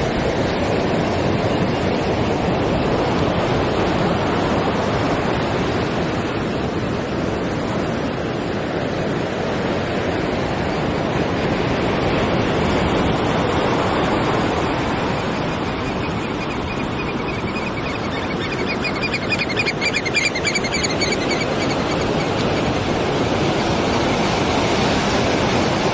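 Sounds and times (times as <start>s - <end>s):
sea surf rushing: 0.0s - 25.9s.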